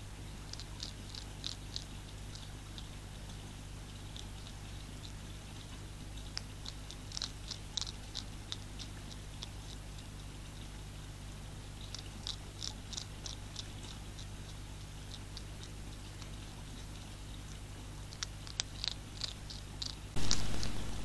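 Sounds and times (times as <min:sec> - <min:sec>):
hedgehog crunching food pellets: 0:00.0 - 0:21.0
steady low hum: 0:00.0 - 0:21.0.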